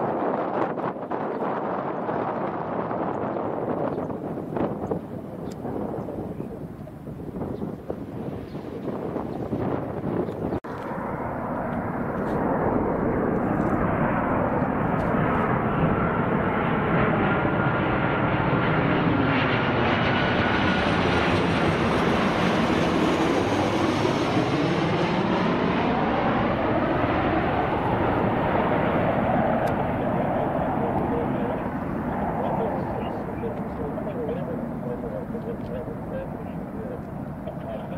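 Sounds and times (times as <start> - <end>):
jet airliner passing overhead: 0.0 - 37.9.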